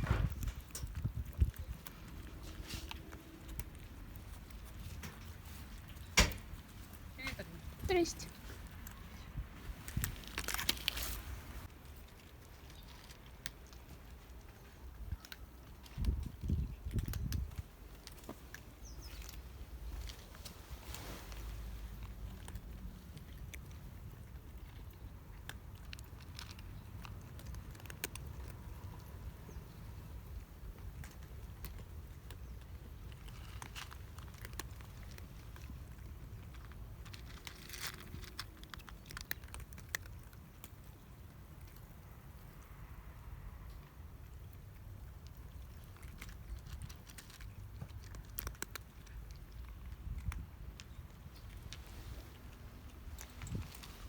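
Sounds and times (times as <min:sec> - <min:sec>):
cats crunching dry food: 0:00.0 - 0:54.0
light clicks and crackles: 0:00.1 - 0:42.7, 0:43.6 - 0:54.0.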